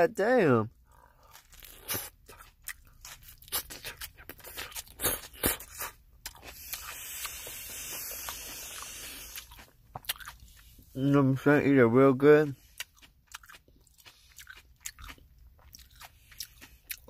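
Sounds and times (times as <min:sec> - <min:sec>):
person chewing crunchy food: 0:00.9 - 0:11.0, 0:12.4 - 0:17.0.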